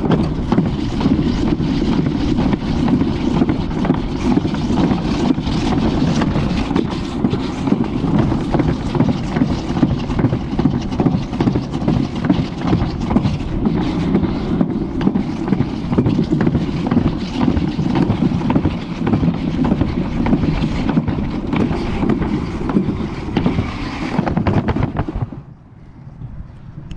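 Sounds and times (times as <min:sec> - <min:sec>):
sled rolling down track: 0:00.0 - 0:25.6
wind on microphone: 0:00.0 - 0:26.9.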